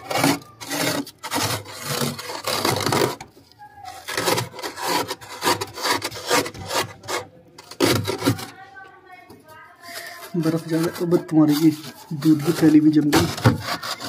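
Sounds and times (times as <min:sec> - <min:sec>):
fingers scraping frost: 0:00.0 - 0:08.6, 0:09.8 - 0:14.0.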